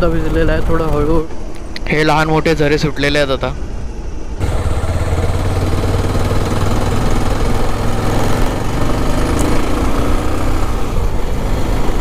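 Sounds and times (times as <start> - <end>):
road and wind noise: 0.0 - 12.0
vehicle engine humming: 0.0 - 12.0.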